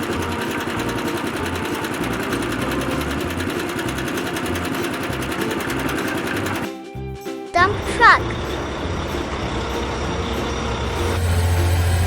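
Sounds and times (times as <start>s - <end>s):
cement mixer motor rattling: 0.0s - 6.7s, 8.2s - 12.0s.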